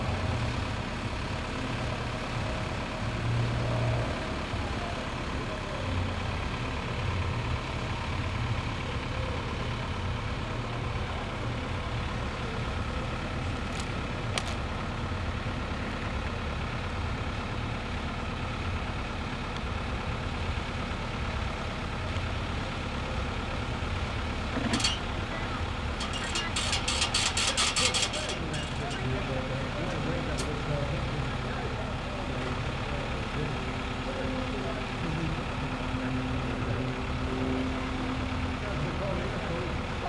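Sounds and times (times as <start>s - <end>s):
distant propeller plane drone: 0.0s - 40.0s.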